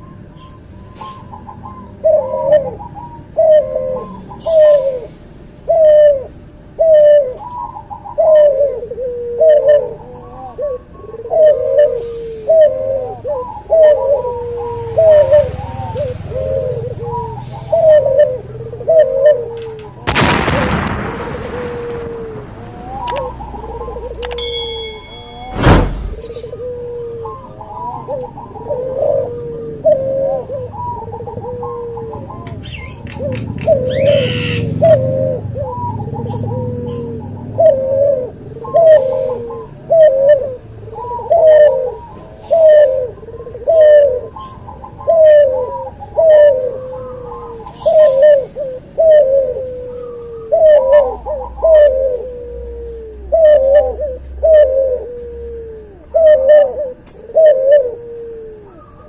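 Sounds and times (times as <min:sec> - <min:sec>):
dove cooing: 0:00.0 - 0:25.5, 0:26.1 - 0:59.0.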